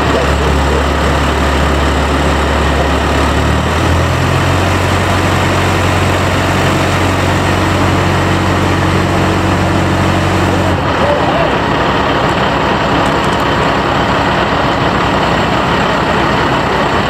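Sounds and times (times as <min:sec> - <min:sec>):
heavy engine running: 0:00.0 - 0:17.0.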